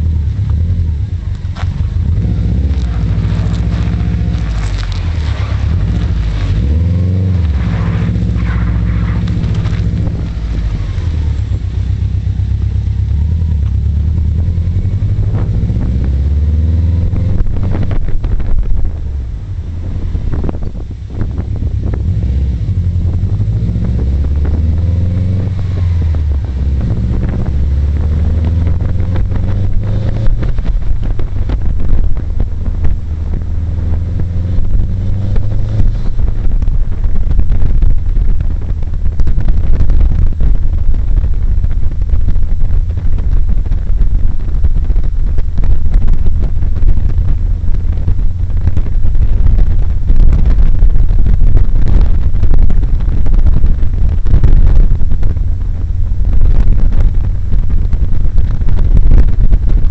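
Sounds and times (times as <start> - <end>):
car engine accelerating: 0.0 - 59.9
tyre noise: 0.0 - 59.9
wind buffeting on microphone: 0.0 - 59.9.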